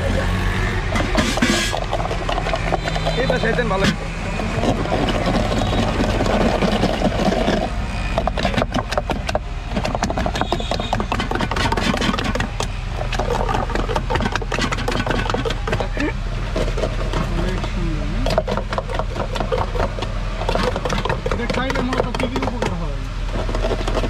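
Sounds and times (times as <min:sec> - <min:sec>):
wooden churner clattering in metal mug: 0:00.9 - 0:24.0.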